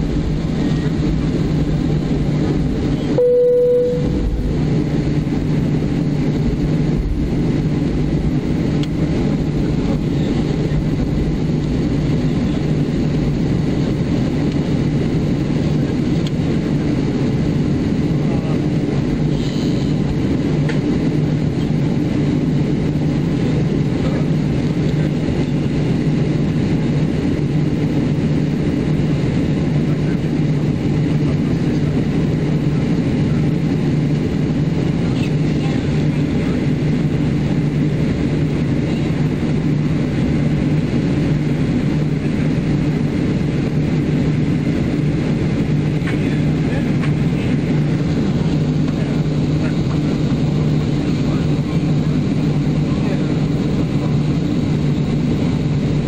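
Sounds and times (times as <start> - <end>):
jet engine hum in cabin: 0.0 - 56.0.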